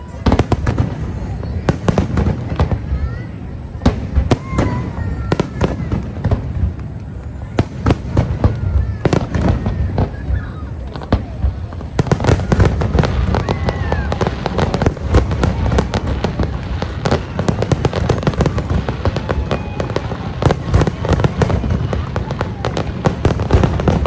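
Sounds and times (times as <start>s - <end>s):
fireworks cracking and banging: 0.0s - 24.0s.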